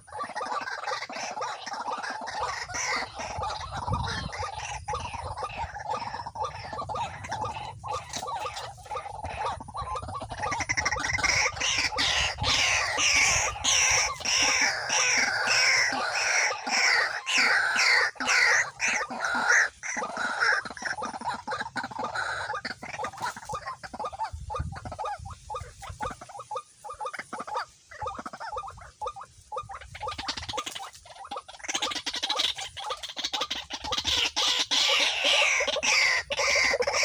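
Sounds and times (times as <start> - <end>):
waterhen calling: 0.0 - 37.0.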